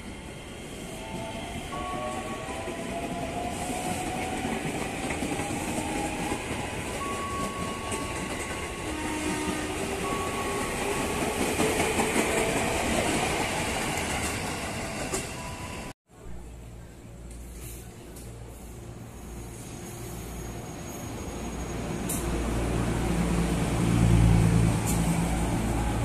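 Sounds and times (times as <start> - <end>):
train wheels on rails: 0.0 - 15.9, 17.3 - 26.0.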